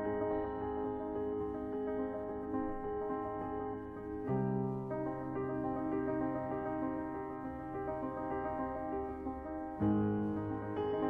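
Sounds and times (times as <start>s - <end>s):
soft keyboard chords: 0.0s - 11.0s.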